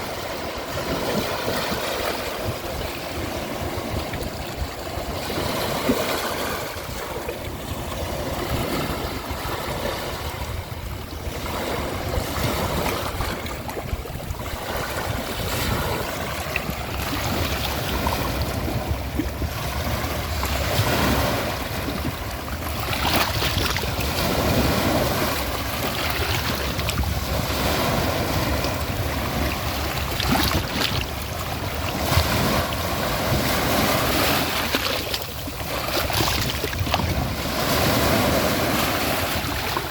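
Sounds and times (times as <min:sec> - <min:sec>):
ocean waves on shore: 0:00.0 - 0:39.9
wind rumble on microphone: 0:00.0 - 0:39.9.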